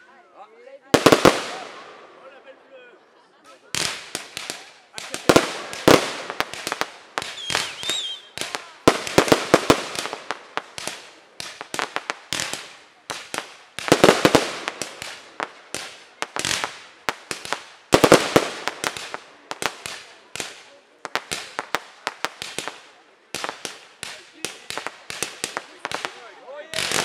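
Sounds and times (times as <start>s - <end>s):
fireworks bangs: 0.9s - 2.6s, 3.7s - 27.0s.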